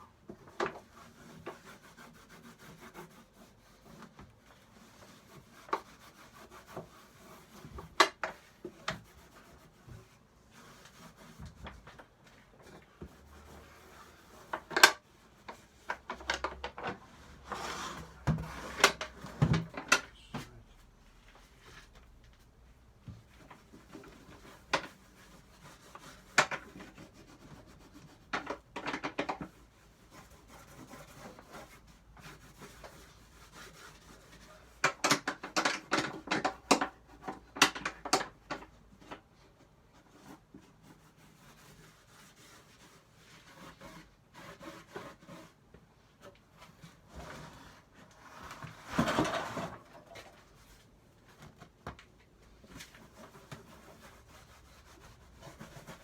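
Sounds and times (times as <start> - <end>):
rubbing and scraping on wood: 0.2 - 56.0.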